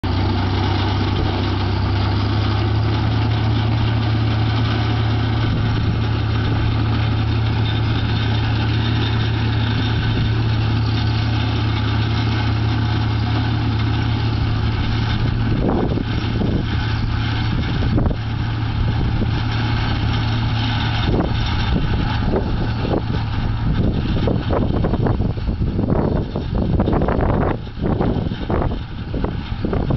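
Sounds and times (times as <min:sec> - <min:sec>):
tractor engine droning: 0:00.0 - 0:29.9
wind buffeting microphone: 0:00.1 - 0:29.9.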